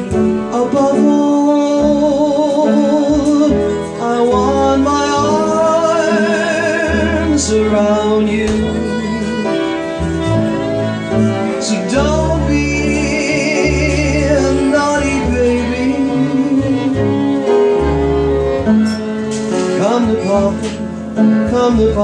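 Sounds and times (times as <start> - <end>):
plucked upright bass: 0.0 - 22.0
upright piano: 0.0 - 22.0
violin melody with vibrato: 0.0 - 22.0.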